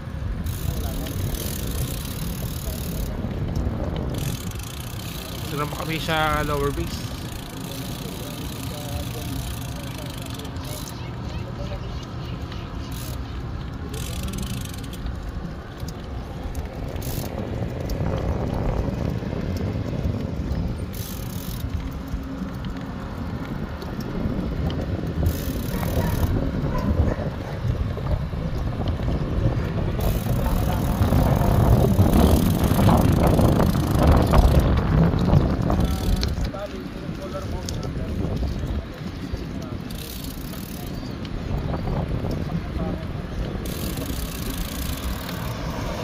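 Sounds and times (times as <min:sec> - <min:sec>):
wind rushing over microphone: 0:00.0 - 0:07.6, 0:13.4 - 0:46.0
bicycle tyres rolling on asphalt: 0:00.0 - 0:46.0.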